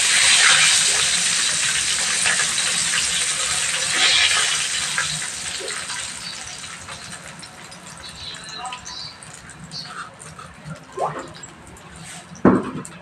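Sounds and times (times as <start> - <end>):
hot oil sizzling and crackling: 0.0 - 12.4.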